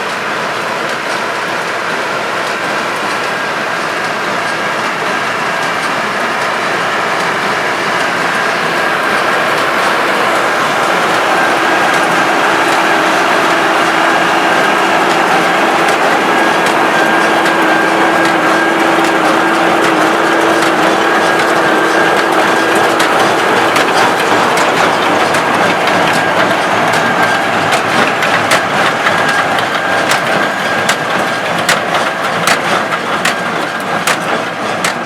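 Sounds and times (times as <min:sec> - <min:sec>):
tractor engine running: 0:00.1 - 0:35.0.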